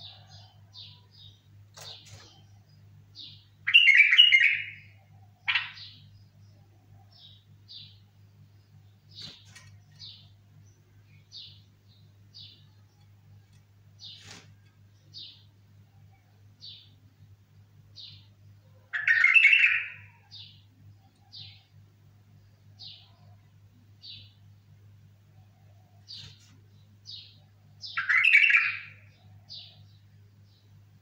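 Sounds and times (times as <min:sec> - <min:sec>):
bird song phrase: 0:00.0 - 0:17.4, 0:18.0 - 0:21.8, 0:22.4 - 0:24.8, 0:25.4 - 0:30.8.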